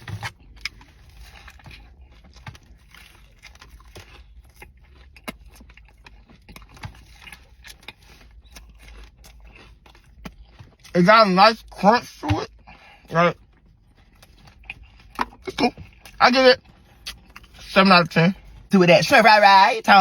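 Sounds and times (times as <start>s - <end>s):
crunchy chewing: 0.0s - 11.0s, 12.4s - 17.7s
low steady hum: 0.0s - 20.0s.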